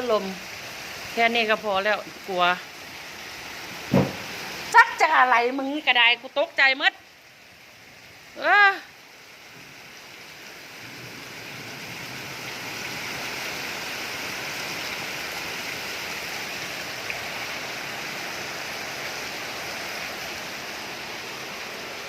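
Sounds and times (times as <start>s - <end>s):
heavy rain in wind: 0.0s - 22.0s.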